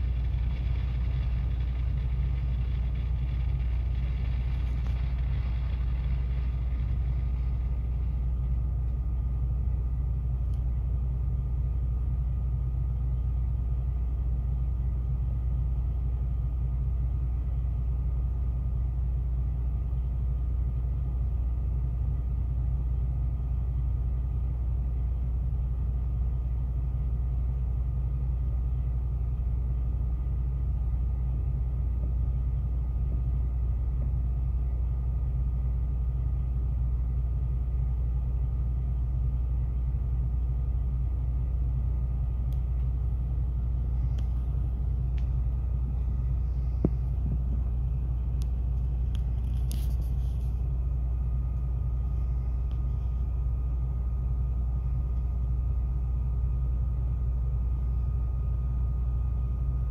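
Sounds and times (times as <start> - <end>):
diesel truck engine idling: 0.0 - 59.9
faint whine: 0.0 - 59.9.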